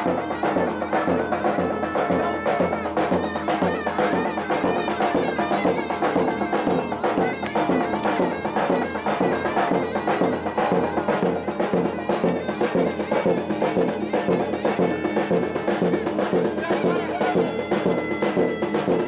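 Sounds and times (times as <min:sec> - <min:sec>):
davul drum beat: 0:00.0 - 0:19.0
shrill zurna melody: 0:00.0 - 0:19.0.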